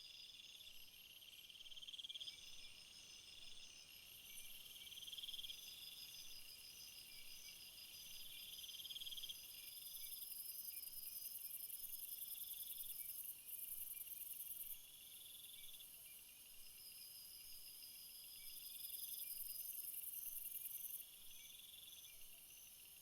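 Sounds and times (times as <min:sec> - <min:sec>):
crickets and insects chirping: 0:00.0 - 0:23.0.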